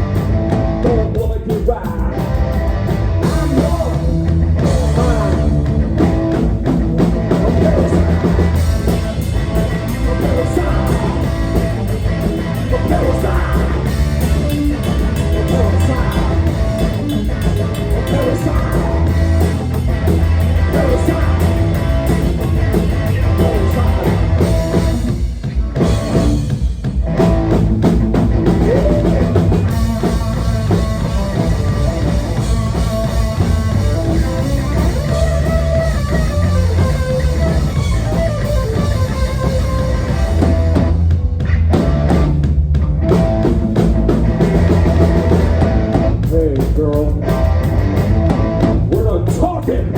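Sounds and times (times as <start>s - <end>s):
bass guitar: 0.0s - 49.9s
distorted electric guitars: 0.0s - 49.9s
drum kit: 0.0s - 49.9s.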